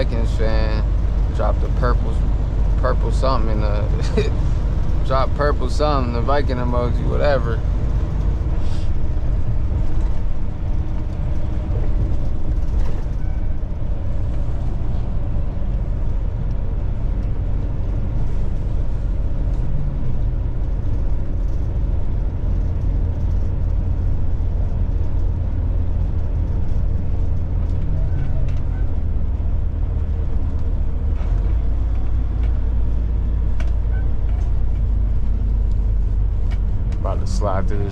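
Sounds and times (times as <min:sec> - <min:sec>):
diesel truck engine running: 0:00.0 - 0:37.9
road noise inside cab: 0:00.0 - 0:37.9.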